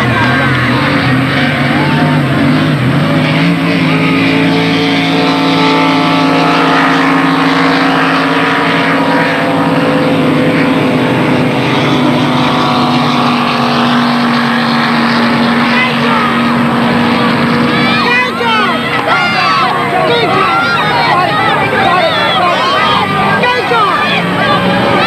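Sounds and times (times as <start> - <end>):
powerboat engine running: 0.0 - 25.0.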